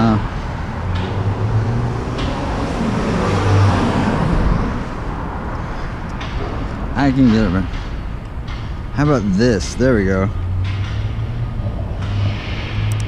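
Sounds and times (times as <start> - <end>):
street traffic noise: 0.0 - 13.0
vehicle engine hum: 0.0 - 13.0.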